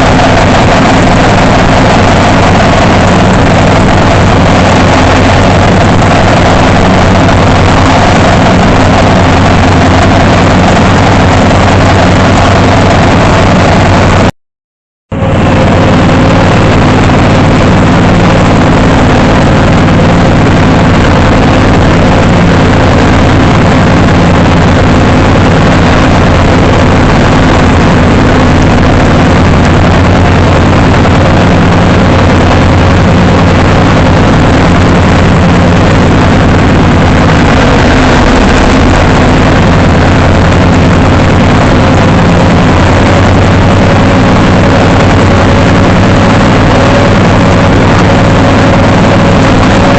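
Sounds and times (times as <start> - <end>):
loud engine running steadily: 0.0 - 14.4, 15.1 - 49.9.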